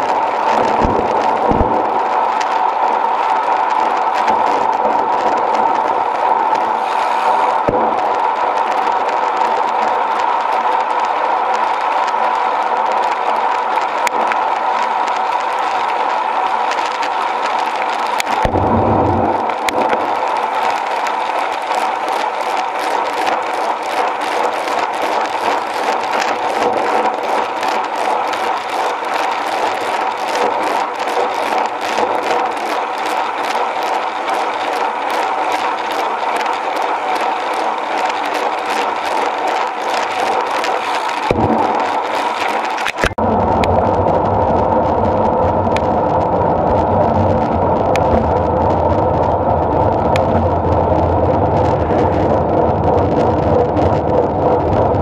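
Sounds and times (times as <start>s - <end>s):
steady hum: 0.0s - 55.0s
wind rushing over camera: 0.0s - 55.0s.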